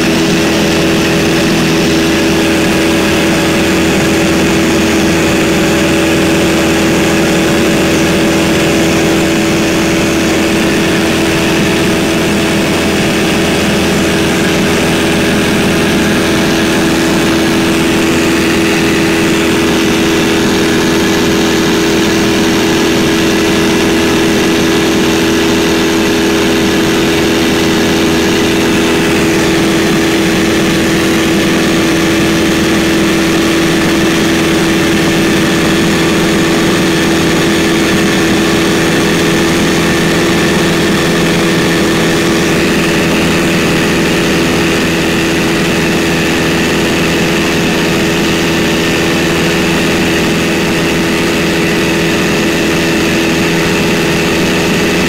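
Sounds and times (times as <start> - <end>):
aircraft engine drone in cabin: 0.0 - 55.0.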